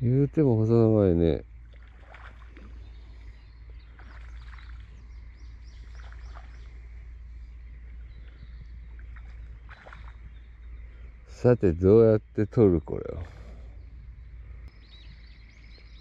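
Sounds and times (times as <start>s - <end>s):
birds chirping: 0.0s - 16.0s
low steady rumble: 0.0s - 16.0s.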